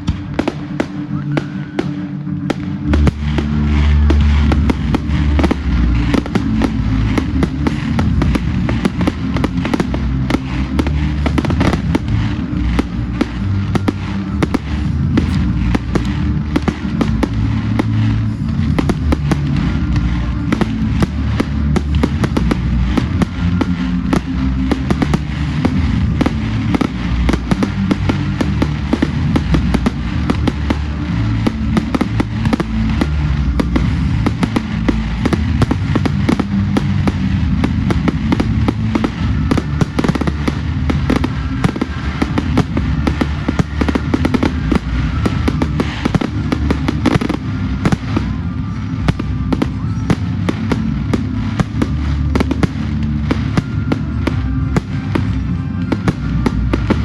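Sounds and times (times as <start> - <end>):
fireworks bangs and crackles: 0.0 - 57.0
low rumble: 0.0 - 57.0
music playing: 0.0 - 57.0.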